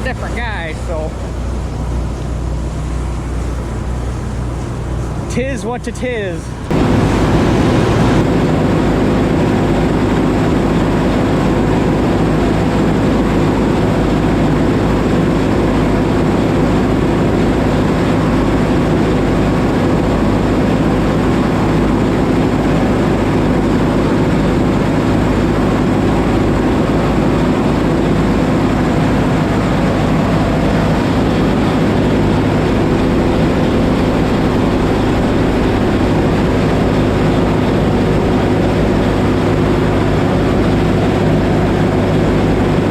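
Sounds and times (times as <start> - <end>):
combine harvester engine drone: 0.0 - 42.9.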